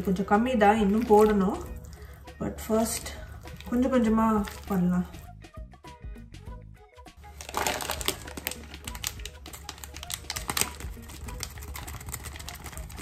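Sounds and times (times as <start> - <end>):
hands squishing wet chicken: 0.0 - 5.3, 7.3 - 13.0.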